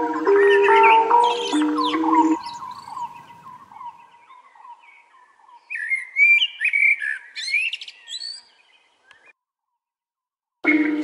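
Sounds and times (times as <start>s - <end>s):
blackbird singing: 0.0s - 9.3s.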